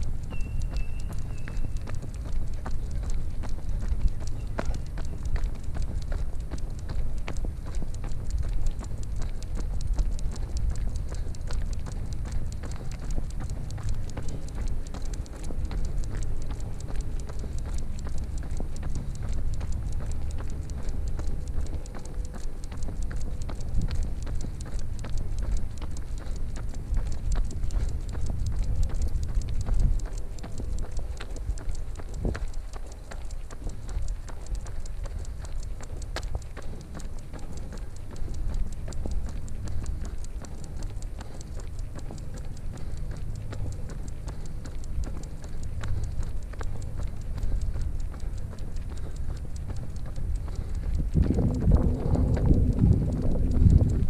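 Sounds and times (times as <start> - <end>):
dog toenails clicking on pavement: 0.0 - 54.0
steady low rumble: 0.0 - 54.0.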